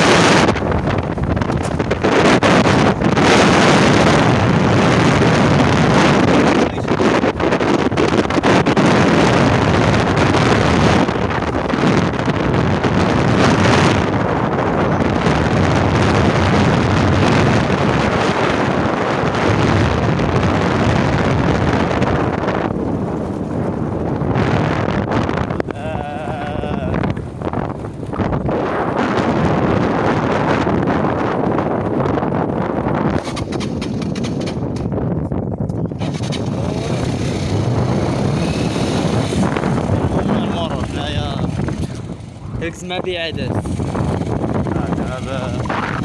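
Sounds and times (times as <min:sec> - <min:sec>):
vehicle noise: 0:00.0 - 0:46.0
wind buffeting microphone: 0:00.0 - 0:46.0.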